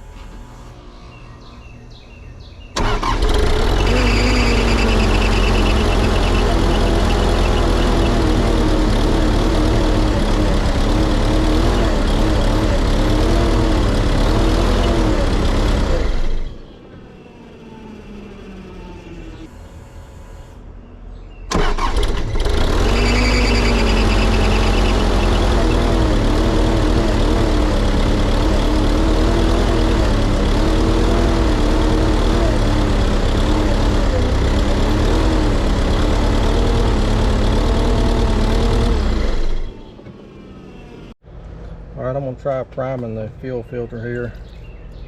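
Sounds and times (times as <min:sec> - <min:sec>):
diesel engine cranking: 0:00.0 - 0:20.8, 0:21.4 - 0:41.6.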